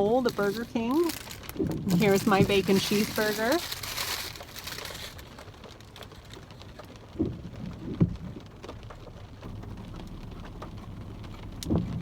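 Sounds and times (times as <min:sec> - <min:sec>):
rain on a car roof: 0:00.0 - 0:12.0.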